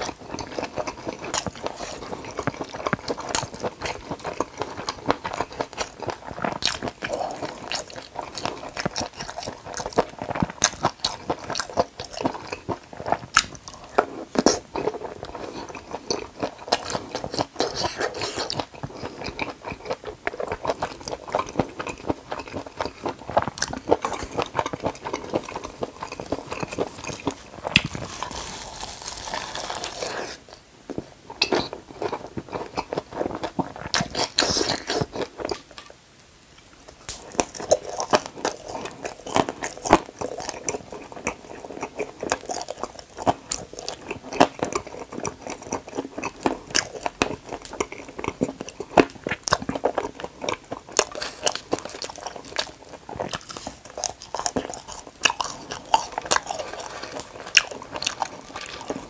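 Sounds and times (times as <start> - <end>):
chewing food: 0.0 - 36.0, 36.6 - 59.0.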